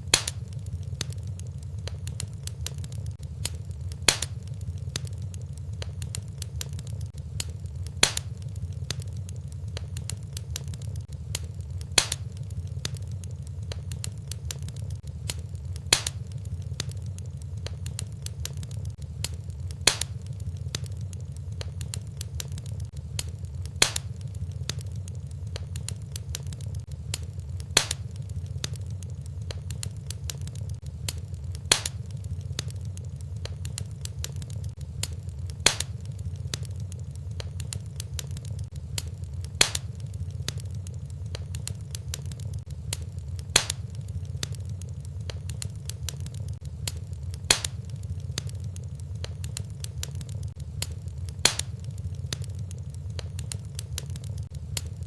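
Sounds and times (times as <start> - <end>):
fireplace fire crackling: 0.0 - 55.0
sharp pops of fire: 0.0 - 55.0.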